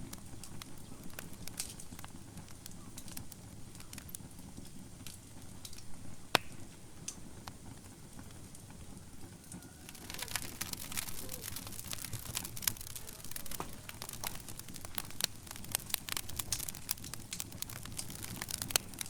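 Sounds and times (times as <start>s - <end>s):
fire crackling: 0.0s - 19.0s
fire rumbling: 0.0s - 19.0s.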